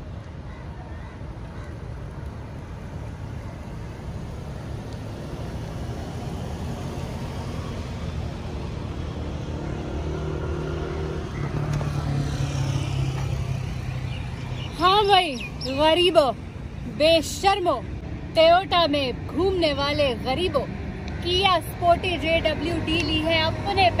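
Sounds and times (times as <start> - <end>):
road rumble: 0.0 - 24.0.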